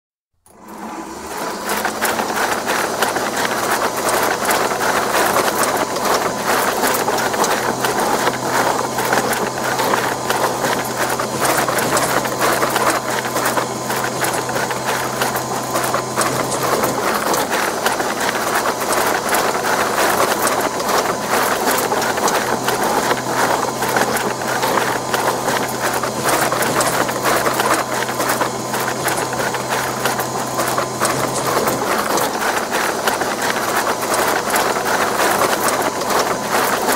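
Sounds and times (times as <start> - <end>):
dough mixer motor rattling: 0.4 - 36.9.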